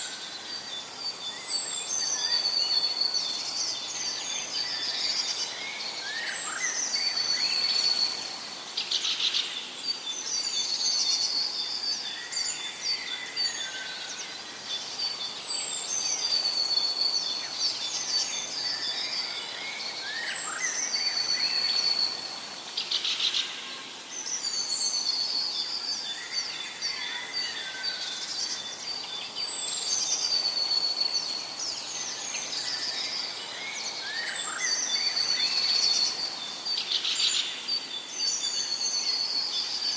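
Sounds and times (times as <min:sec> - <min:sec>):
birds singing and chirping: 0:00.0 - 0:39.9
steady hiss: 0:00.0 - 0:39.9.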